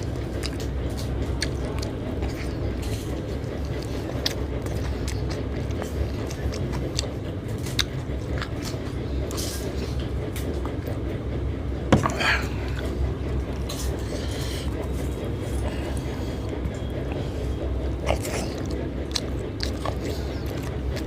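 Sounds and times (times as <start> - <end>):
chewing and lip smacks: 0.0 - 11.1, 12.0 - 21.0
low background hum: 0.0 - 21.0.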